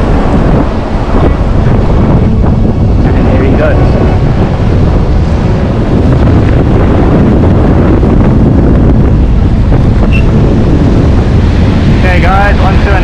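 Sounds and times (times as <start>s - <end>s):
surf washing through shallows: 0.0s - 13.0s
wind buffeting microphone: 0.0s - 13.0s.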